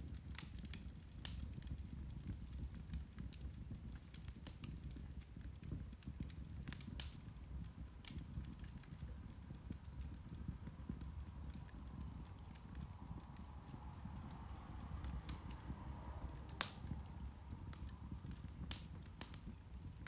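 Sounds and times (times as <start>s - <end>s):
peat fire crackling: 0.0s - 20.0s.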